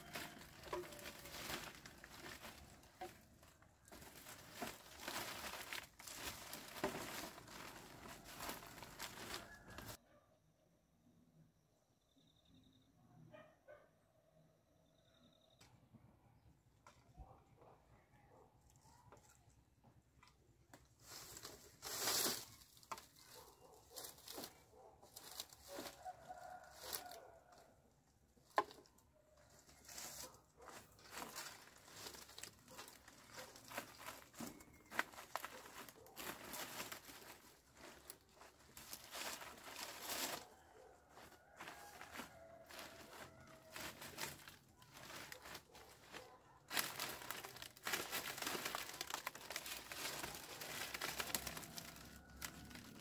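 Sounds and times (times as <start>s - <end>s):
rustling and crinkling: 0.0s - 10.0s, 20.2s - 53.0s.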